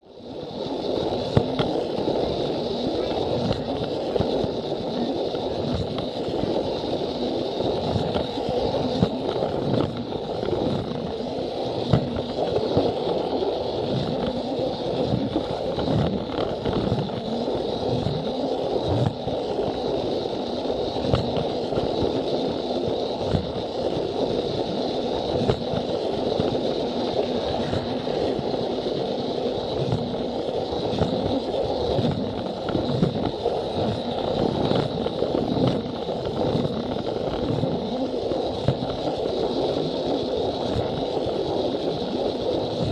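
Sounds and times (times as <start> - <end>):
toy train motor whine: 0.0 - 42.9
wheels rattling on rails: 0.2 - 42.9.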